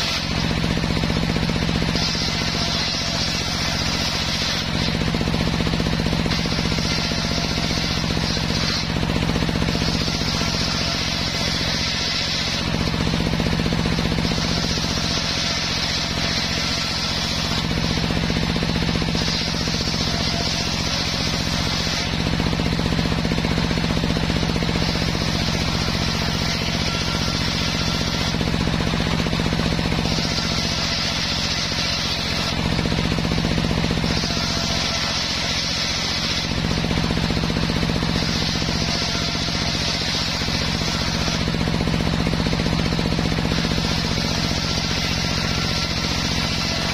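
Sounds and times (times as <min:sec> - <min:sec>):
circular saw humming: 0:00.0 - 0:46.9
saw blade cutting wood: 0:00.0 - 0:46.9.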